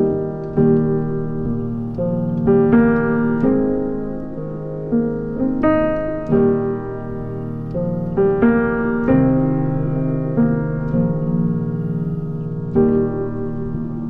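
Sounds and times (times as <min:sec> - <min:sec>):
slow gentle piano chords: 0:00.0 - 0:14.0.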